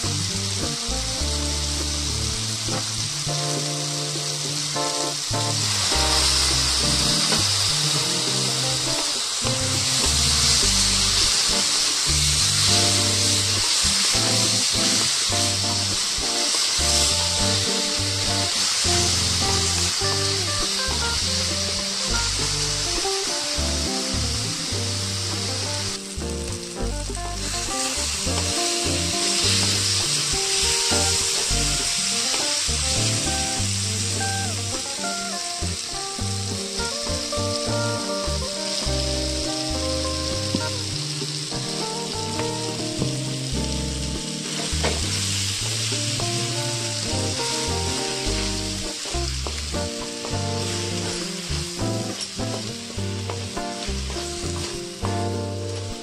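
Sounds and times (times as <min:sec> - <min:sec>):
background music with bass: 0:00.0 - 0:56.0
vegetables sizzling in hot oil: 0:00.0 - 0:56.0.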